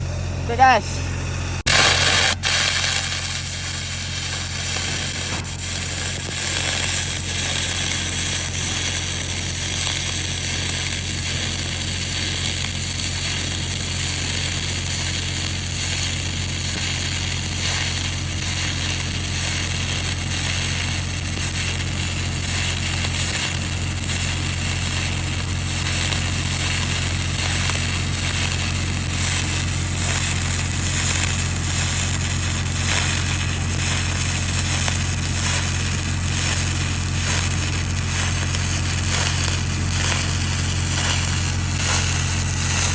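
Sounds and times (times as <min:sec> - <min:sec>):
steady low hum: 0:00.0 - 0:42.9
welding arc crackling and hissing: 0:00.5 - 0:00.9, 0:01.6 - 0:42.9.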